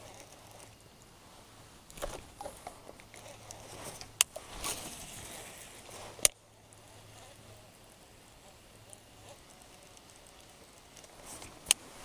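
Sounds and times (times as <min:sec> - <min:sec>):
fishing reel clicks and rustles: 0:00.0 - 0:01.2, 0:01.8 - 0:12.0.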